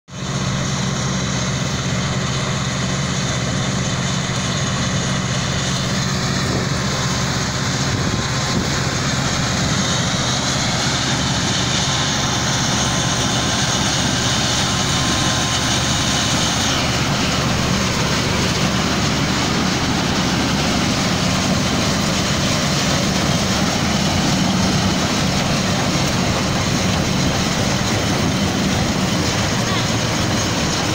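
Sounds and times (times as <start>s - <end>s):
combine threshing machinery: 0.1s - 30.9s
tractor diesel engine: 0.1s - 30.9s.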